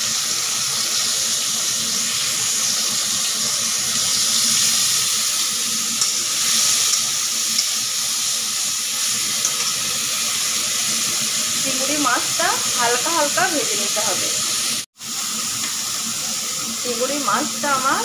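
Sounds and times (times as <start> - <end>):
prawns sizzling in hot oil: 0.0 - 18.0.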